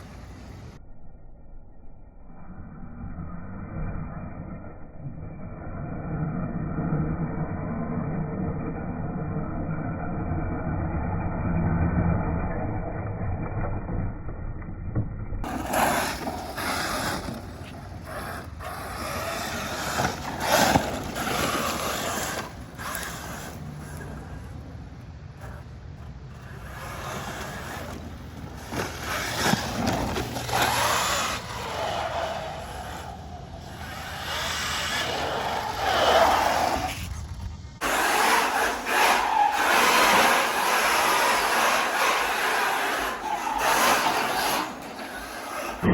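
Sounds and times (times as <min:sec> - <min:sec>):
rc trucks driving on gravel: 0:00.0 - 0:00.8, 0:02.2 - 0:45.9.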